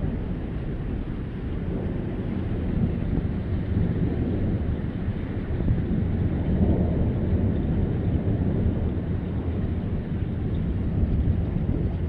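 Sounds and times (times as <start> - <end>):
rolling thunder rumbling: 0.0 - 12.0.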